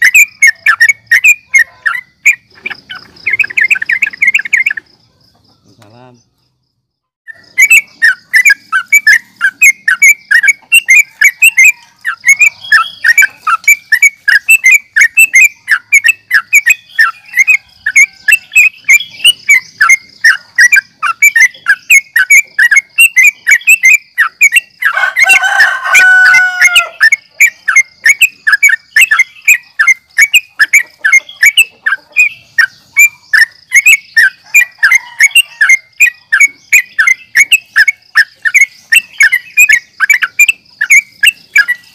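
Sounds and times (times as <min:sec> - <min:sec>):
bird singing fast chatter: 0:00.0 - 0:41.9.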